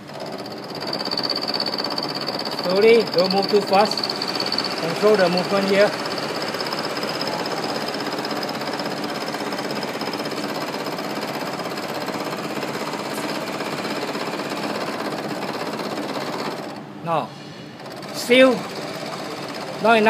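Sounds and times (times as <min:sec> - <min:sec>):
milling cutter grinding: 0:00.0 - 0:16.8.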